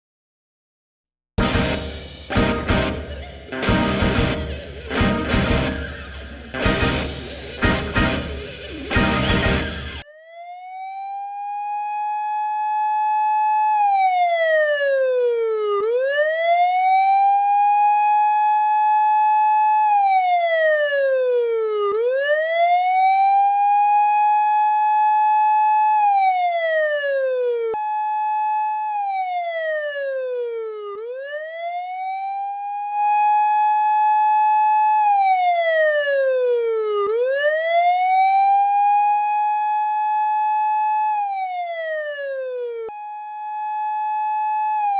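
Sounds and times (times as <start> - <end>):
police siren wailing: 1.4 - 44.9.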